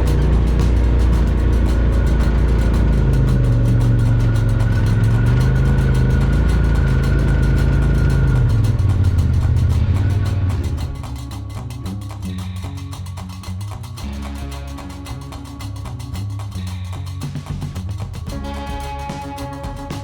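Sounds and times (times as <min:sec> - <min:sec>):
utv engine running: 0:00.0 - 0:20.0.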